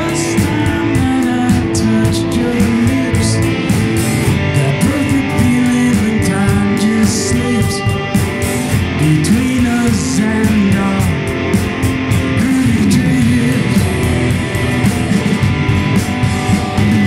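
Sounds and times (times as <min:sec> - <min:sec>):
man singing: 0:00.0 - 0:14.2
drums with cymbals: 0:00.0 - 0:17.0
electric guitars: 0:00.0 - 0:17.0.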